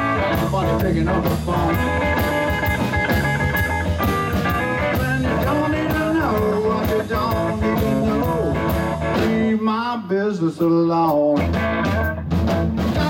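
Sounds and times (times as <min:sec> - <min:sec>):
drum kit cymbal beat: 0:00.0 - 0:09.5, 0:11.1 - 0:13.0
electric guitar bending notes: 0:00.0 - 0:09.6, 0:11.4 - 0:13.0
electric bass: 0:00.0 - 0:13.0.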